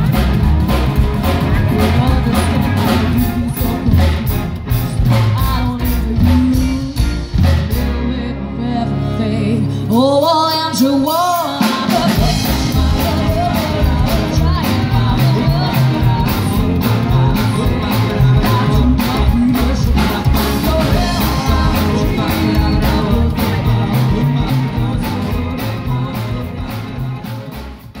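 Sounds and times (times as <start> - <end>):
person singing: 0.0 - 28.0
rockabilly band playing: 0.0 - 28.0.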